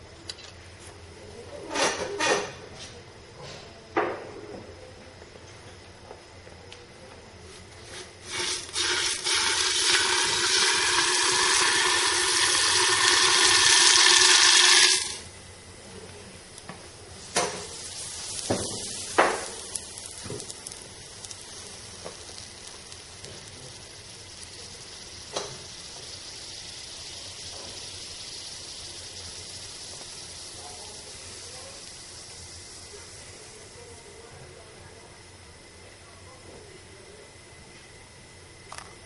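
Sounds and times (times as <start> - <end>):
liquid nitrogen boiling and hissing: 0.0 - 39.0.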